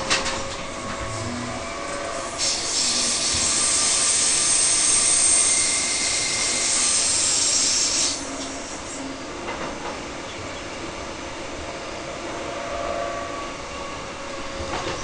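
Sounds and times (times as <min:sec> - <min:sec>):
loud steady hiss in train carriage: 0:00.0 - 0:15.0.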